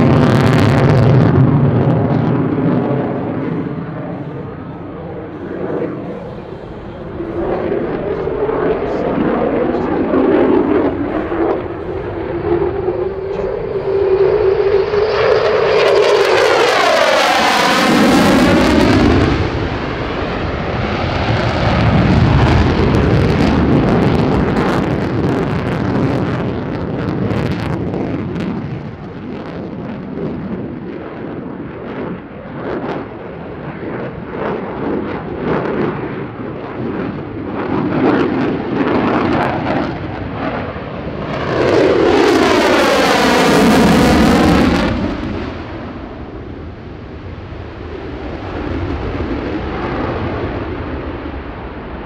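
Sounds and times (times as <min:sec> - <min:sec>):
crackling jet rumble: 0:00.0 - 0:52.0
jet engine roaring in flypast: 0:00.0 - 0:52.0.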